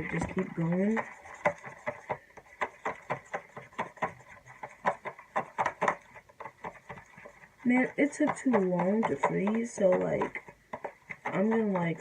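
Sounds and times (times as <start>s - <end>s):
slime stirred in a bowl: 0.0s - 12.0s.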